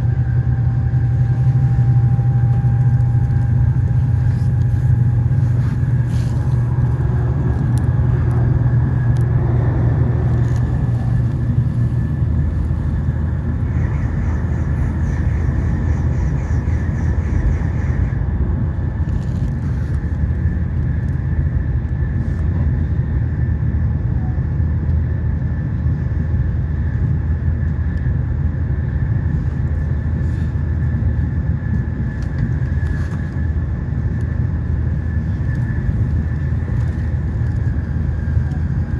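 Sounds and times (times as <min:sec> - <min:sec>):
low hum: 0:00.0 - 0:38.9
train running gear rumble: 0:00.0 - 0:38.9.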